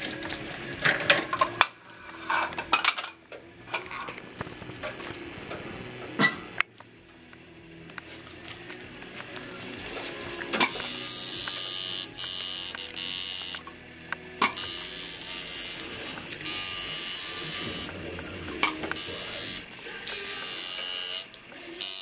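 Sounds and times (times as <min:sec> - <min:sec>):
tattoo machine buzzing: 0:04.2 - 0:22.0.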